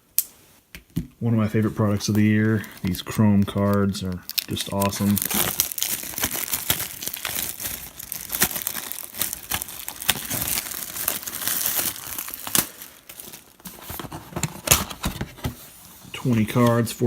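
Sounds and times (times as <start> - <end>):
plastic wrapping crinkling and tearing: 1.4 - 15.4.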